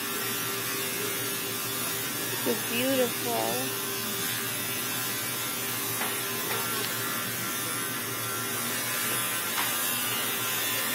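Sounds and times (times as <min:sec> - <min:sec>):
electric buzzing hum: 0:00.0 - 0:10.9.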